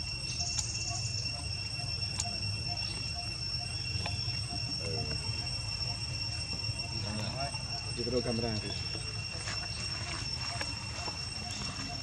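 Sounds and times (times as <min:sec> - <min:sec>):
continuous low rumble: 0:00.0 - 0:12.0
insects trilling: 0:00.0 - 0:12.0.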